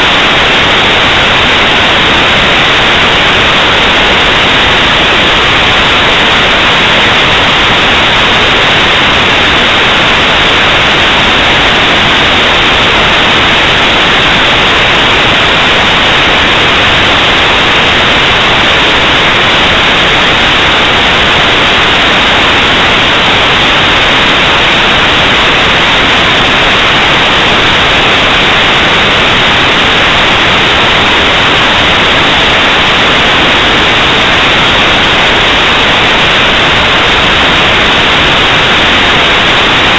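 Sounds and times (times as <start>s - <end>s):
steady static hiss: 0.0s - 39.9s.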